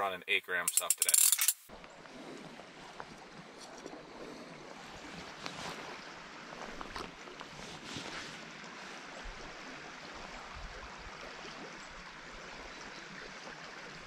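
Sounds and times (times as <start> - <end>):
river flowing: 0.7 - 14.0.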